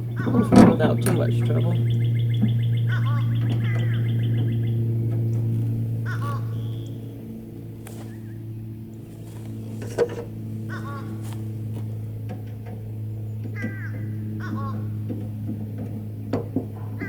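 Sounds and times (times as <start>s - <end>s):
bird calling: 0.0s - 17.0s
low mechanical hum: 0.0s - 17.0s.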